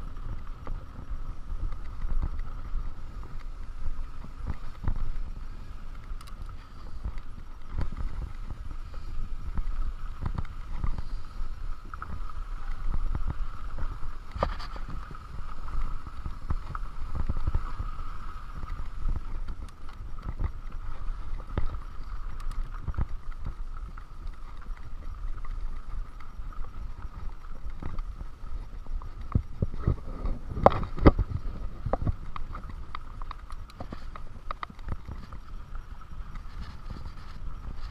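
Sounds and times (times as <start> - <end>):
bike tyres rumbling on gravel: 0.0 - 37.9.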